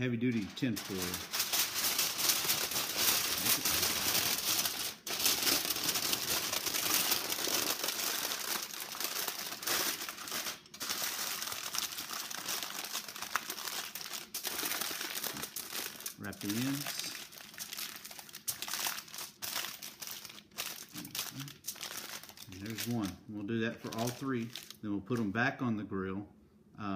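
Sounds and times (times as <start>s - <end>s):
aluminium foil crinkling: 0.2s - 25.3s.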